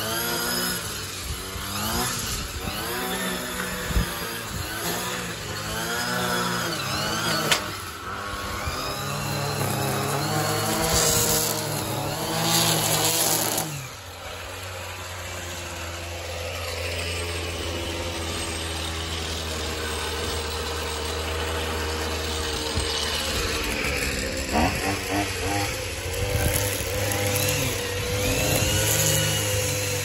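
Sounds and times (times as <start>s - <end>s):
gas string trimmer engine: 0.0s - 30.0s.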